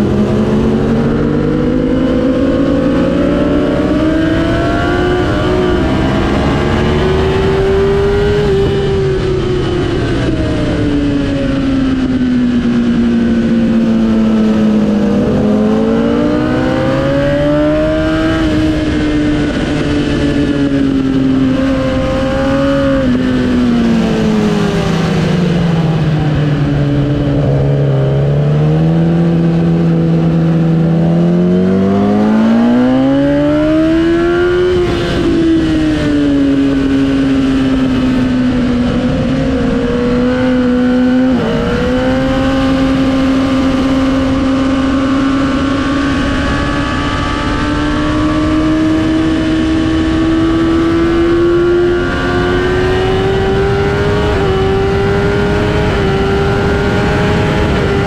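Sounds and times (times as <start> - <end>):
motorcycle engine accelerating: 0.0 - 58.0
wind rush: 0.0 - 58.0.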